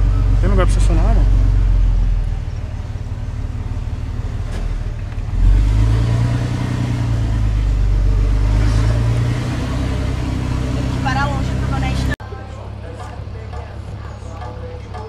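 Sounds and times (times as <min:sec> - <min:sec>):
diesel truck engine from inside cab: 0:00.0 - 0:15.0.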